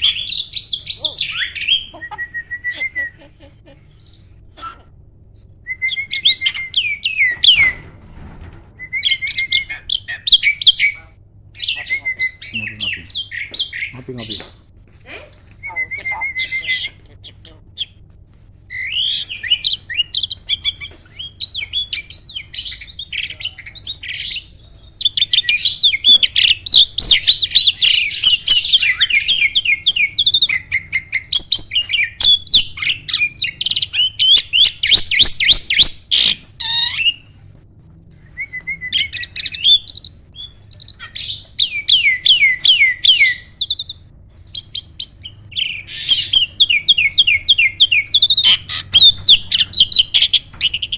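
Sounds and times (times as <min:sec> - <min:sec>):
starling singing and chattering: 0:00.0 - 0:04.7, 0:09.0 - 0:14.6, 0:15.6 - 0:18.0, 0:18.7 - 0:37.3, 0:38.9 - 0:50.9.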